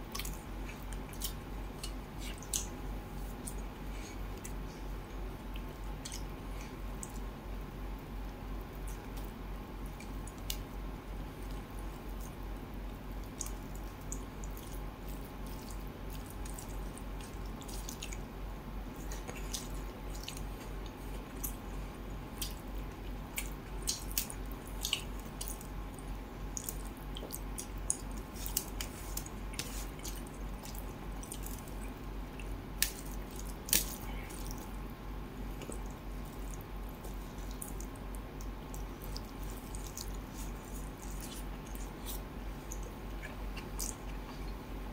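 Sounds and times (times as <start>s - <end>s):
wet squishing of hand mixing food: 0.0s - 44.6s
steady low hum: 0.0s - 44.9s.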